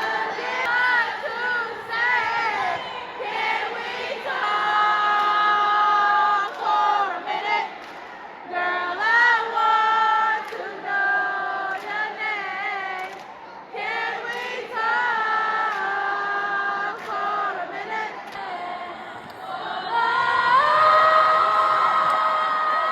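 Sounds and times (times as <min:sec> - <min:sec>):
young voices singing a cappella: 0:00.0 - 0:22.9.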